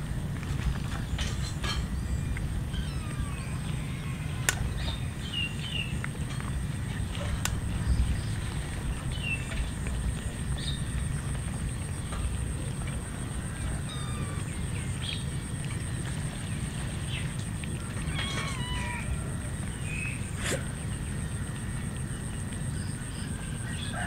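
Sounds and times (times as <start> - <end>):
steady low rumble: 0.0 - 23.9
cats eating: 0.0 - 24.0.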